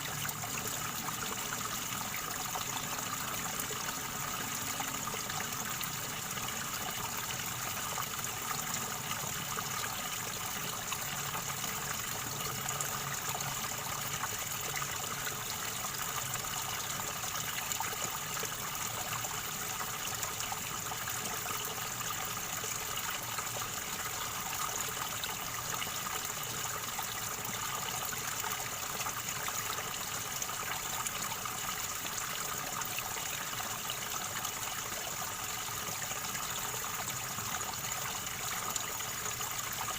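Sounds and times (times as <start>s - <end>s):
river water gurgling: 0.0s - 39.9s.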